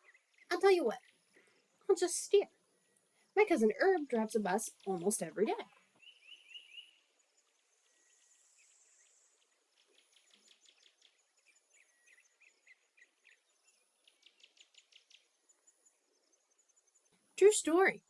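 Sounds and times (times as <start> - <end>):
faint high chirping and ticking: 0.0 - 18.0.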